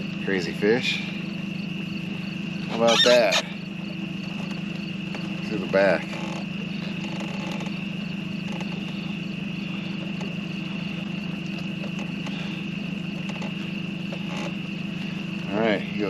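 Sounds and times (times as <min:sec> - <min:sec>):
boat motor idling: 0:00.0 - 0:16.0
high-pitched insect chorus: 0:00.0 - 0:16.0.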